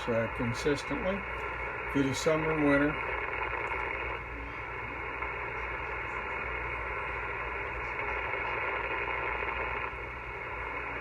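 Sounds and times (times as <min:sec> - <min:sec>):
low hum: 0:00.0 - 0:11.0
radio interference buzzing hiss: 0:00.0 - 0:11.0.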